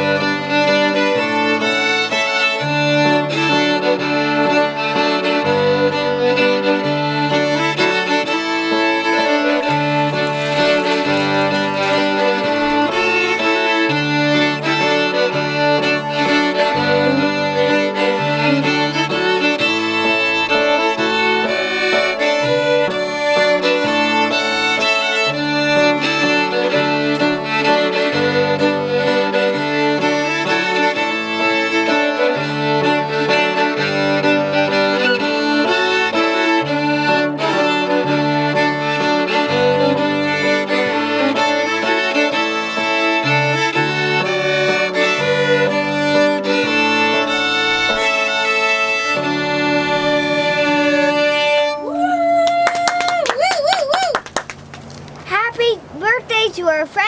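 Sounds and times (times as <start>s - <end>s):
piano accompaniment: 0.0s - 52.0s
fiddles playing a tune: 0.0s - 54.0s.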